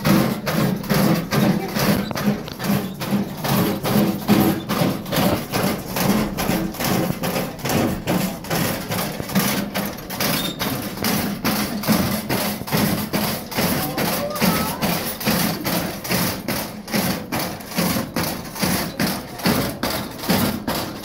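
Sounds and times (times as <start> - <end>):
metal legs clanking: 0.0 - 21.0.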